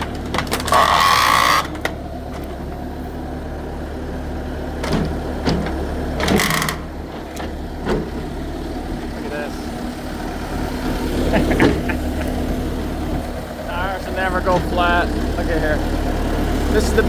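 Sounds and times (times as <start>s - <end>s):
loader engine running: 0.0s - 17.0s.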